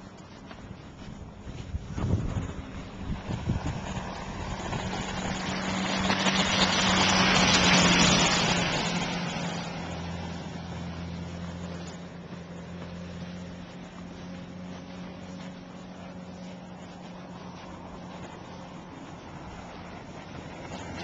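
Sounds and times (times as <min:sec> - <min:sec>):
low engine hum: 0:00.0 - 0:21.0
vehicle driving past on snow: 0:00.0 - 0:21.0.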